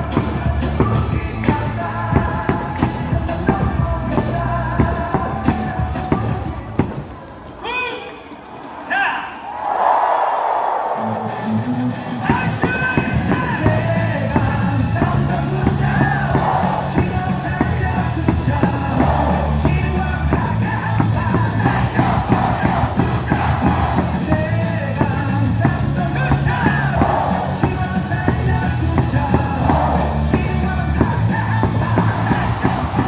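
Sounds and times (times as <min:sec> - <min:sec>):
cheering song over speakers: 0:00.0 - 0:33.0
crowd singing and yelling: 0:00.0 - 0:33.0.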